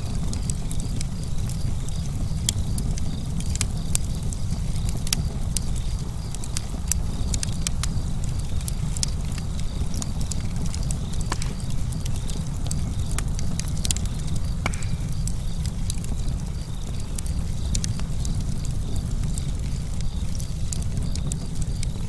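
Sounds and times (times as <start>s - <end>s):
burning wood crackling and popping: 0.0s - 22.0s.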